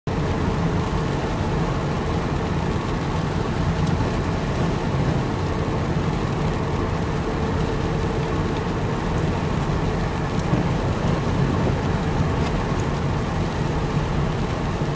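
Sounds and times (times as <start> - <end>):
car engine rumble: 0.1 - 14.9
tyres on wet road: 0.1 - 14.9.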